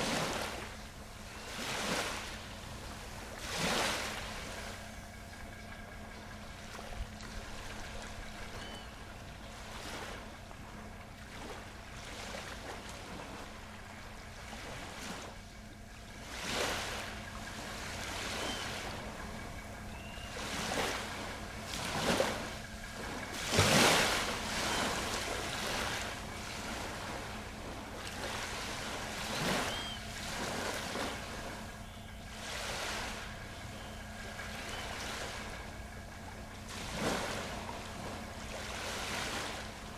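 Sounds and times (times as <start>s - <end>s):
ocean waves breaking: 0.0s - 39.9s
steady low hum: 0.0s - 39.9s.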